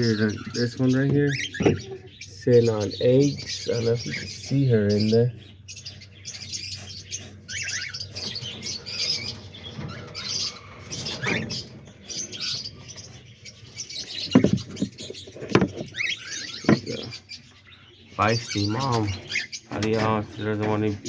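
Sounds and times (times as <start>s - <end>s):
cockatiels chirping and squeaking: 0.0s - 21.0s.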